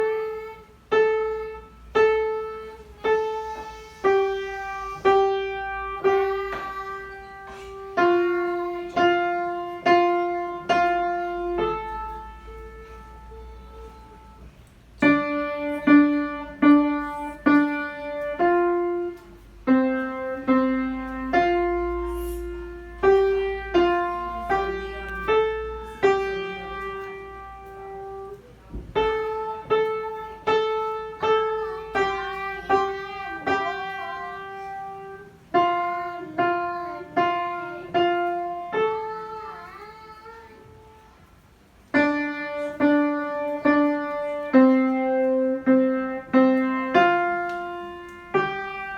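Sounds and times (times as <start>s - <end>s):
child playing piano: 0.0s - 48.9s.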